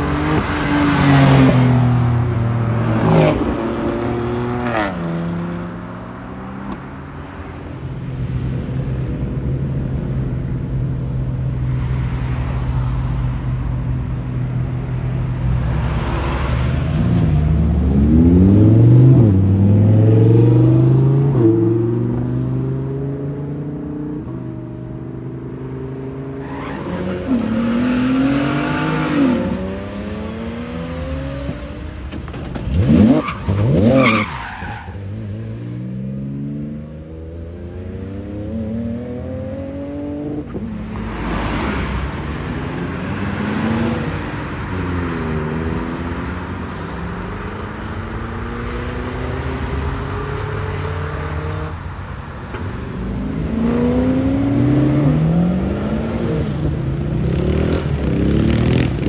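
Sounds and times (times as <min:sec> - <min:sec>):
cars accelerating hard: 0:00.0 - 0:07.1, 0:15.3 - 0:23.1, 0:23.9 - 0:32.0, 0:32.6 - 0:51.8, 0:52.6 - 0:59.0.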